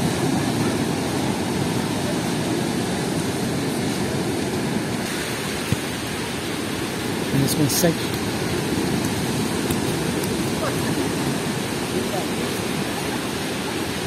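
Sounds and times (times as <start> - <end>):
surf rushing: 0.0 - 14.0
wind: 0.0 - 14.0.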